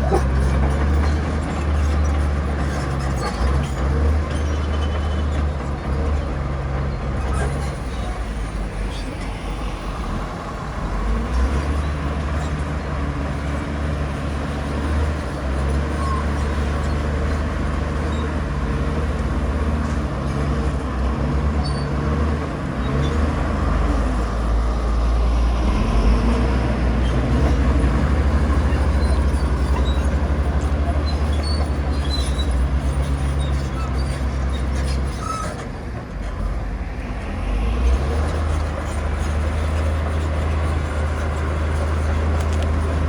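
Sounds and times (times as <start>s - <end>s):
low diesel engine drone: 0.0s - 43.0s.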